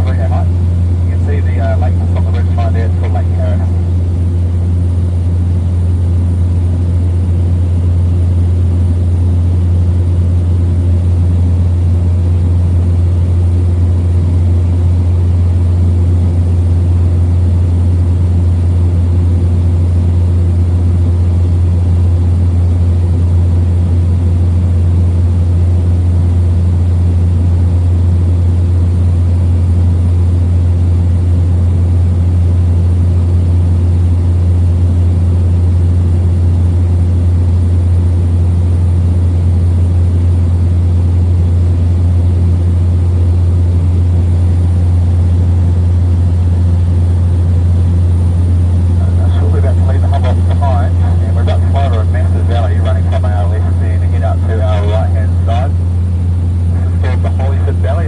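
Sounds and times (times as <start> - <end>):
propeller plane droning in cabin: 0.0 - 58.0.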